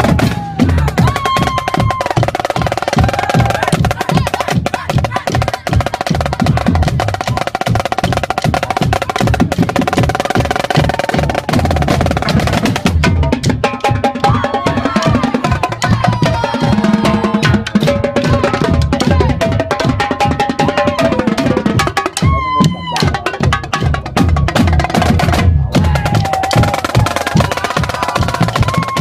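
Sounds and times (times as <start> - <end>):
marching bass drums: 0.0 - 29.0
snare drums: 0.0 - 29.0
tenor drums: 0.0 - 29.0.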